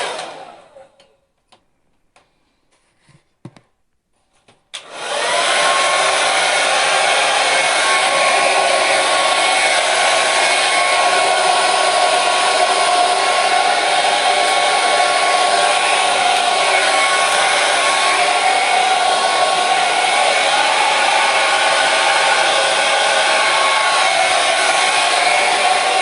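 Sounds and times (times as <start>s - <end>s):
hair dryer running: 0.0s - 1.0s, 4.8s - 26.0s.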